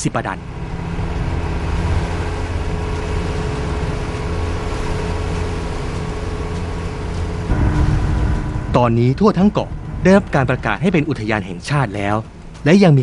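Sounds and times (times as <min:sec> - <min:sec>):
water rushing along hull: 0:00.0 - 0:13.0
motorboat engine running: 0:00.3 - 0:12.6.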